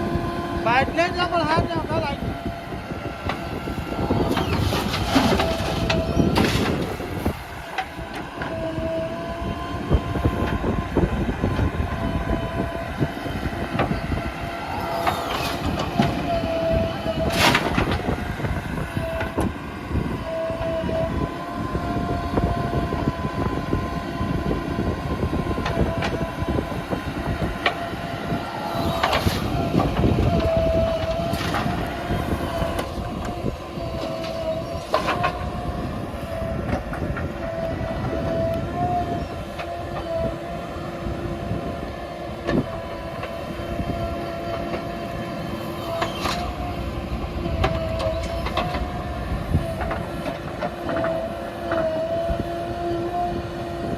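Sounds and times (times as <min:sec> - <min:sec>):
diesel engine under load: 0:00.0 - 0:53.9
high mechanical whine: 0:00.0 - 0:53.9.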